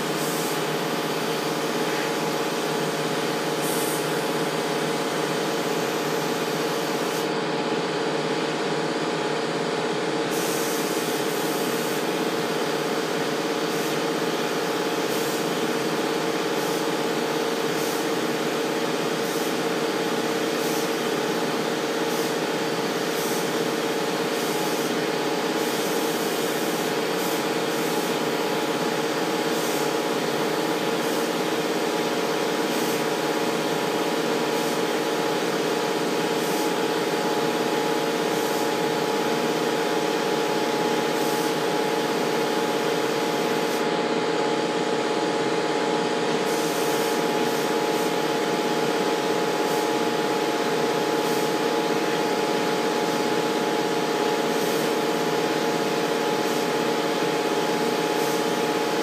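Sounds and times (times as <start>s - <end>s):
paint spray gun hissing: 0.1s - 7.4s, 10.3s - 43.9s, 46.4s - 59.0s.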